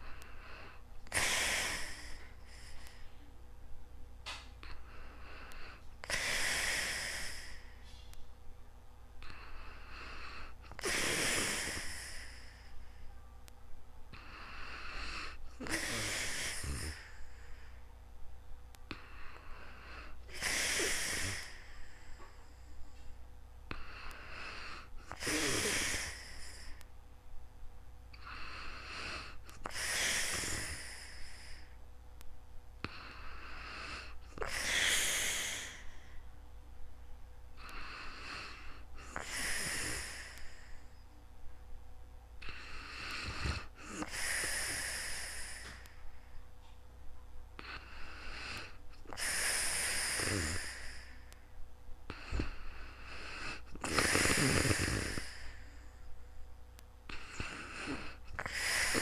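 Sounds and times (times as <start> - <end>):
sleeping person breathing heavily: 0.0 - 3.4, 4.3 - 8.2, 9.2 - 13.3, 14.1 - 18.0, 18.9 - 26.9, 28.1 - 31.8, 32.8 - 36.4, 37.6 - 41.1, 42.4 - 46.8, 47.6 - 56.2, 57.0 - 59.0.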